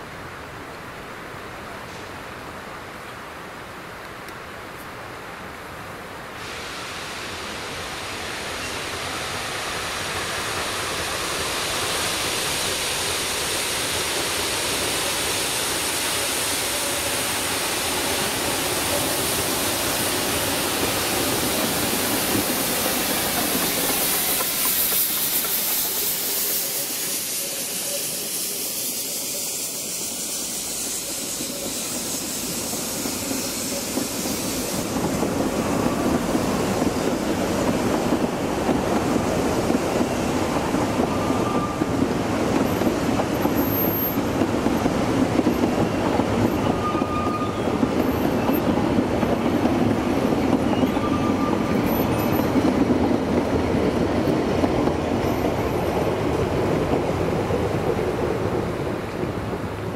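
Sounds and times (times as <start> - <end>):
steam exhaust hissing: 6.4 - 58.6.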